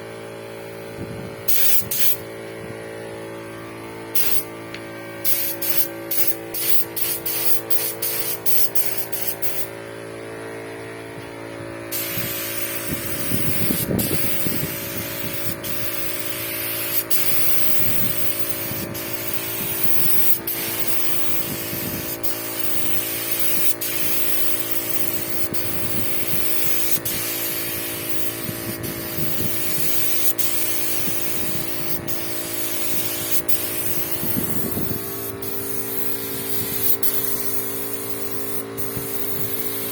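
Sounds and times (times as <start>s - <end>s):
steady hum: 0.0s - 39.9s
paint spray gun hissing: 1.5s - 2.2s, 4.1s - 9.7s, 11.9s - 39.9s.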